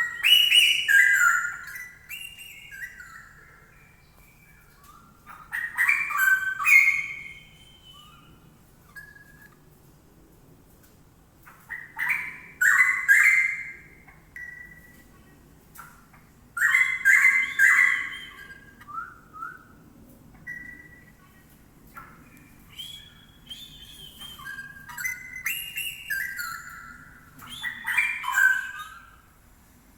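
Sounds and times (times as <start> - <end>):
bird singing warbled phrases: 0.0 - 9.6, 11.6 - 15.4, 16.0 - 29.3.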